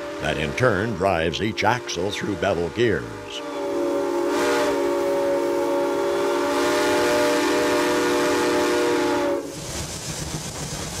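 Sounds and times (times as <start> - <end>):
steam locomotive whistle: 0.0 - 9.6.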